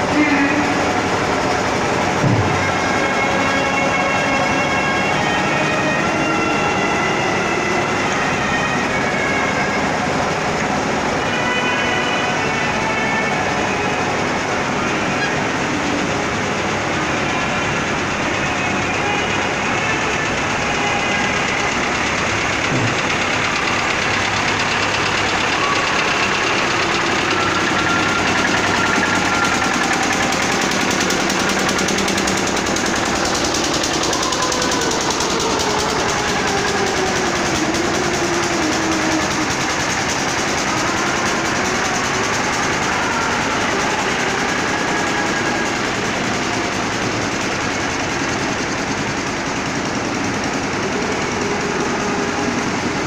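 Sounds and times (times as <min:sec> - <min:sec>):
loud engine running: 0:00.0 - 0:53.0.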